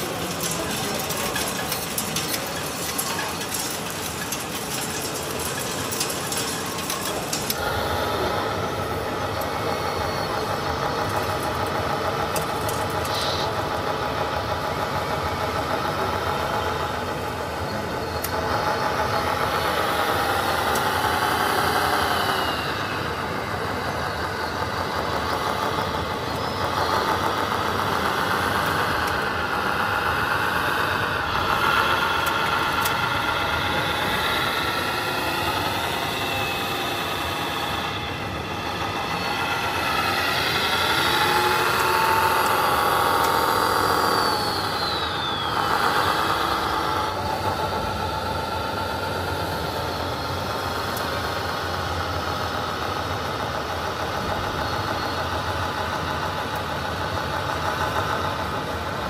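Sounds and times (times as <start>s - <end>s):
model truck motors whining: 0.0s - 59.0s.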